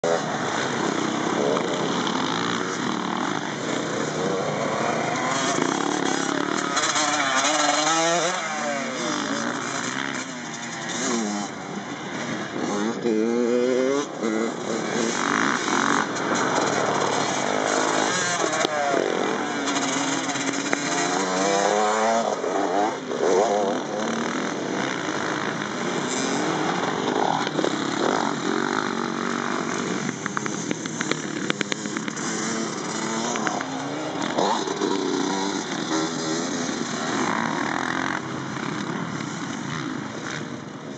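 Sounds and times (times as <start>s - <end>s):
dirt bike engine revving: 0.0s - 38.8s.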